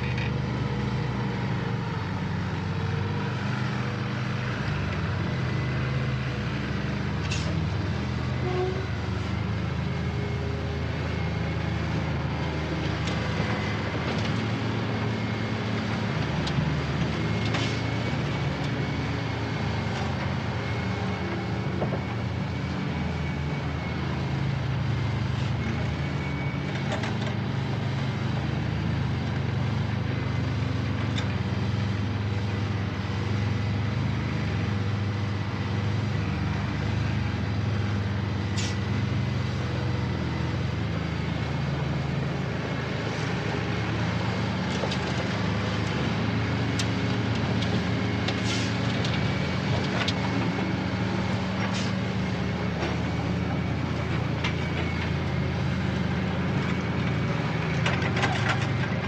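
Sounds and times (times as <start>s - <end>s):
heavy machinery rumbling: 0.0s - 59.0s.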